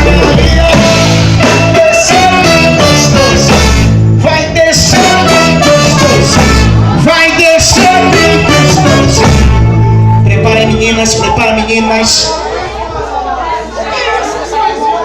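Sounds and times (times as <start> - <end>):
samba-style song with singing: 0.0 - 15.0.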